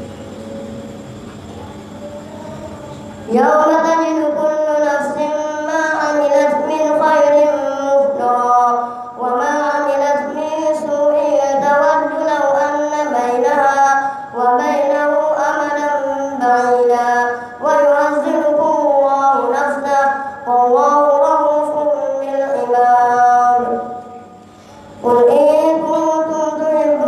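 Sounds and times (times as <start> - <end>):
boy chanting melodically: 1.6 - 27.0.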